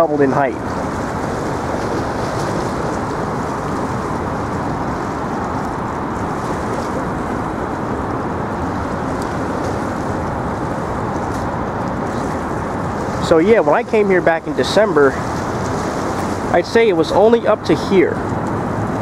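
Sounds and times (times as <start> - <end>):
distant city traffic: 0.0 - 19.0
wind: 0.0 - 19.0.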